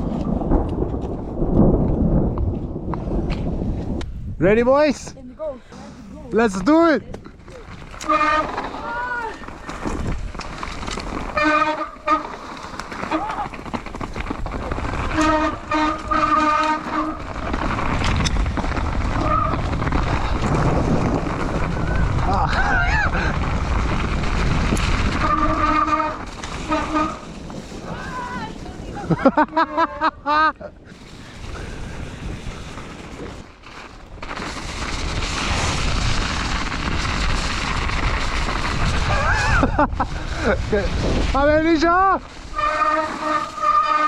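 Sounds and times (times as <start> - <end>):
mountain bike rumble on trail: 0.0 - 4.5, 5.2 - 44.0
wind buffeting microphone: 0.0 - 44.0.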